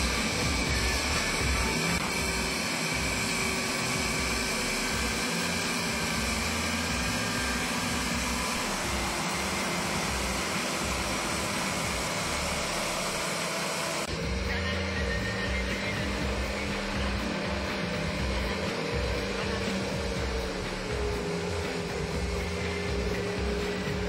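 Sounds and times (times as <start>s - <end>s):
tracked vehicle engine running: 0.0s - 24.0s.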